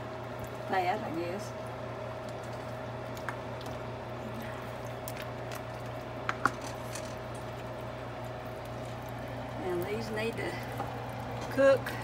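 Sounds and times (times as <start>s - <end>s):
dough squishing in broth: 0.0s - 0.9s, 1.5s - 12.0s
steady low hum: 0.0s - 12.0s.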